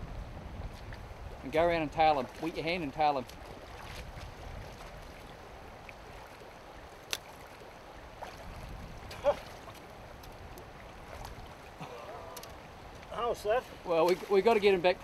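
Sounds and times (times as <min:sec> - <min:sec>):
river water over stones: 0:00.4 - 0:15.0.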